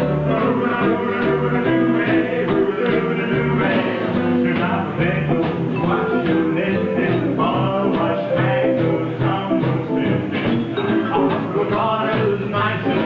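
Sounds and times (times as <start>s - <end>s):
bass line: 0.0s - 13.0s
guitar: 0.0s - 13.0s
live band playing: 0.0s - 13.0s.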